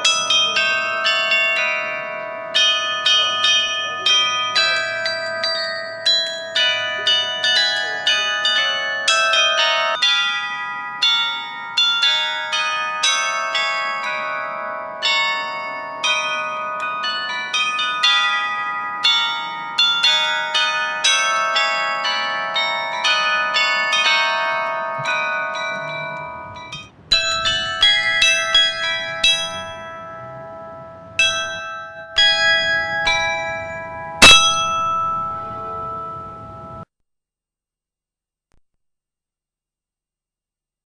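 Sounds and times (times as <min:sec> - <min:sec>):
carillon bells playing tune: 0:00.0 - 0:36.9.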